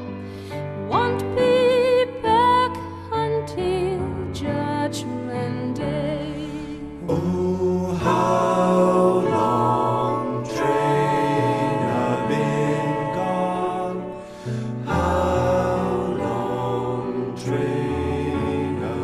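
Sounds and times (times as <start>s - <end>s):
song with held sung notes: 0.8s - 19.0s.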